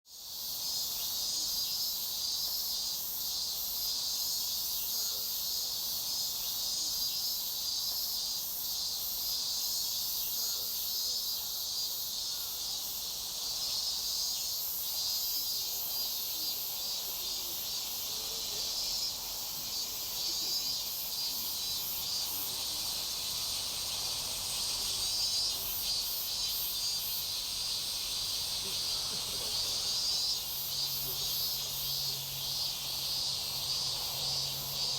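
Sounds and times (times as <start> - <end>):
insects chirring: 0.2 - 34.9.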